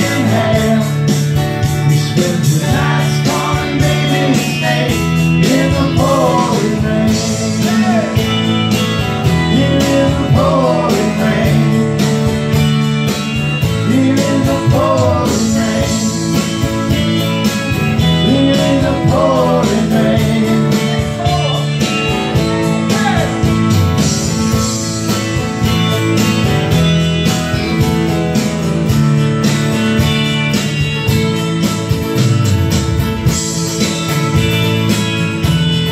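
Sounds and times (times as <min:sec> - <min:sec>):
acoustic guitar strumming: 0:00.0 - 0:35.9
bass notes: 0:00.0 - 0:35.9.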